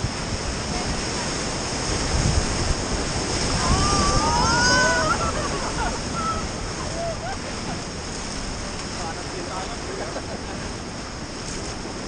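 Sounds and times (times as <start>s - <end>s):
river rapids rushing and splashing: 0.0s - 12.0s
wind buffeting microphone: 0.0s - 12.0s.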